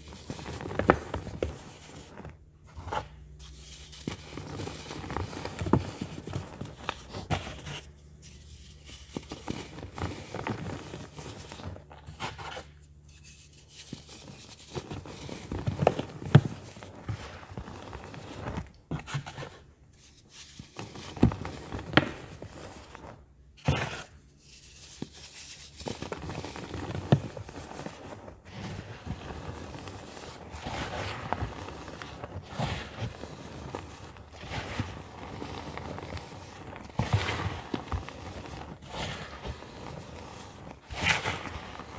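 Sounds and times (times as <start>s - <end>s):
hands crushing powdery lumps: 0.0s - 18.9s, 20.2s - 41.9s
loose powder rustling: 0.0s - 41.9s.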